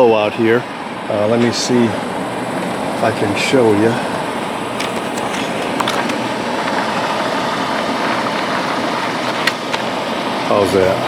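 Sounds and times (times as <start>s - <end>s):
air conditioner fan rushing: 0.0s - 11.0s.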